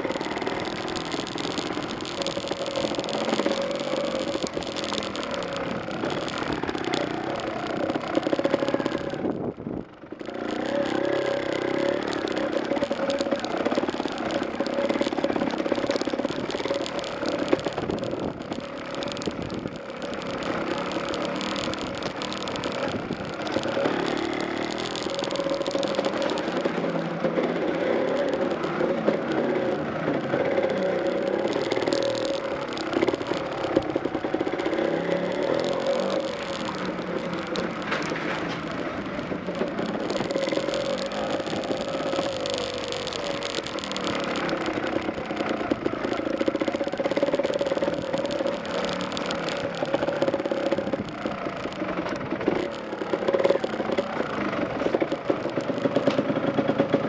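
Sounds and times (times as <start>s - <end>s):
bike clattering over stones: 0.0s - 57.0s
motorcycle engine running: 0.0s - 57.0s.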